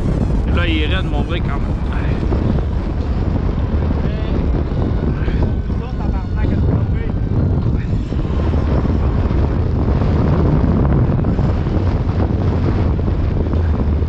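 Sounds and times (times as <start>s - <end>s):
boat motor running: 0.0s - 14.0s
wind noise on microphone: 0.0s - 14.0s.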